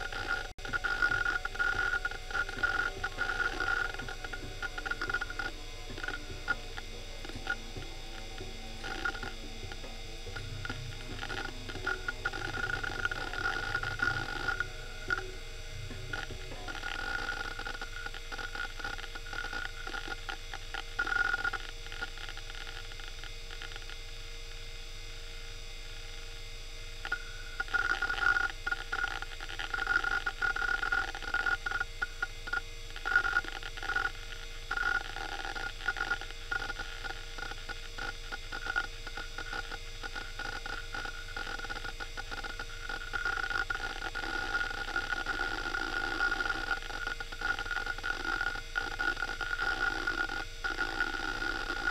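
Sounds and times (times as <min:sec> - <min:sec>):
hard drive seek clicking: 0:00.0 - 0:51.9
hard drive whining: 0:00.0 - 0:51.9.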